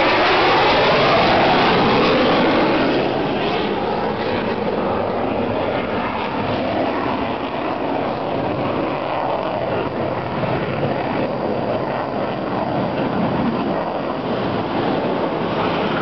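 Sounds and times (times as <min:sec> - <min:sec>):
fighter jet flying overhead: 0:00.0 - 0:16.0.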